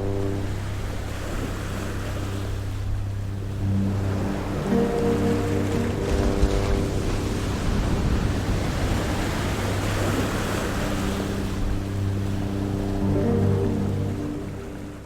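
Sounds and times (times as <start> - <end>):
surf rushing: 0.0 - 14.9
soft background music: 0.0 - 15.0
wind: 0.0 - 15.0.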